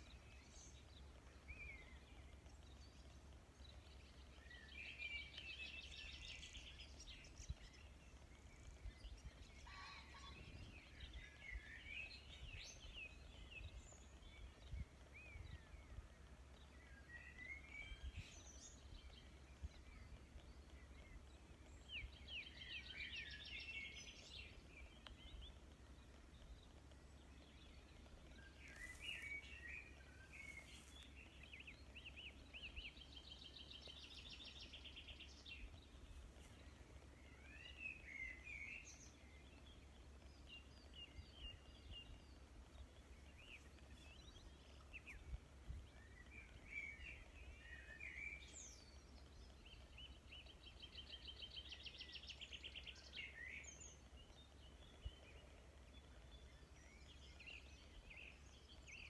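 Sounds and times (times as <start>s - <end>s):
birds chirping and trilling: 0.0s - 59.0s
low steady hum: 0.0s - 59.0s.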